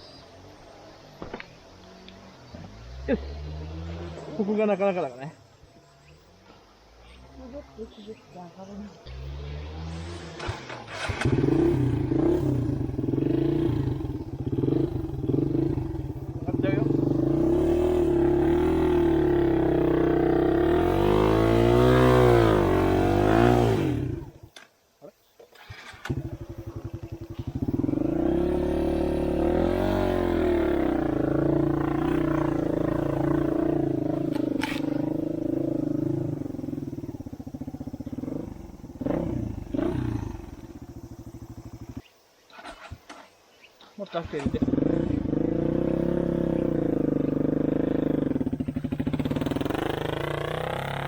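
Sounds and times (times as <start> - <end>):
motorcycle engine revving: 0.0 - 24.7, 25.6 - 43.3, 44.2 - 51.0.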